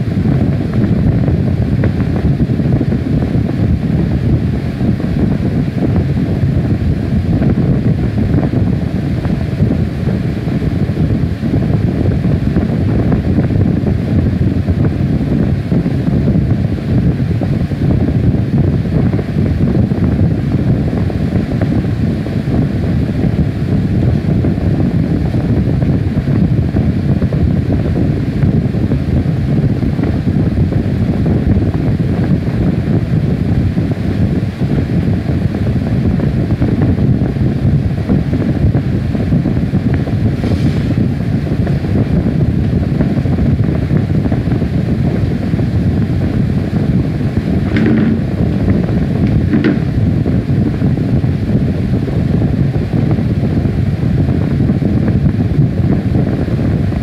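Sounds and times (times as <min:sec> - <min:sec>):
loud low rumbling: 0:00.0 - 0:37.4, 0:39.2 - 0:57.0.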